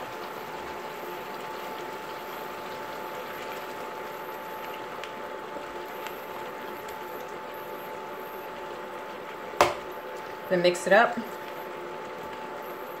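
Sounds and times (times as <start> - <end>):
food sizzling in a pan: 0.0 - 13.0
high hum from cooktop: 0.0 - 13.0.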